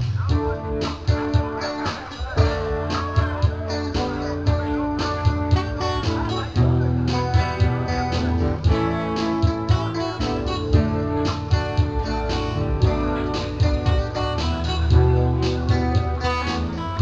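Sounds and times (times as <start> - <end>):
bass line: 0.0 - 17.0
steady beat: 0.0 - 17.0
strummed guitar: 0.0 - 17.0.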